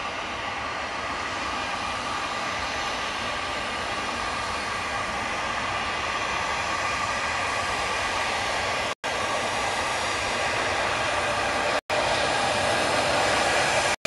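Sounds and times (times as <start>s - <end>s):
jet turbofans whining: 0.0s - 14.0s.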